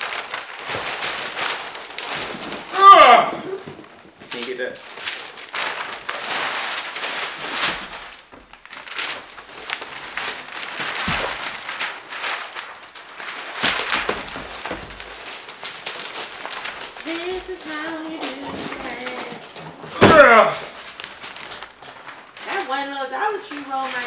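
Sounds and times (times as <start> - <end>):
wrapping paper rustling and crackling: 0.0 - 24.0.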